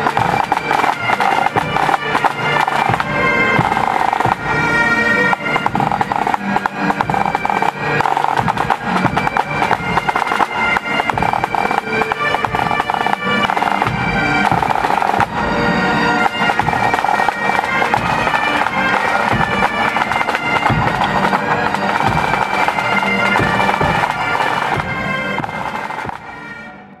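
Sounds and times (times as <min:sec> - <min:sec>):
drum beats: 0:00.0 - 0:26.5
bagpipes playing a tune: 0:00.0 - 0:27.0.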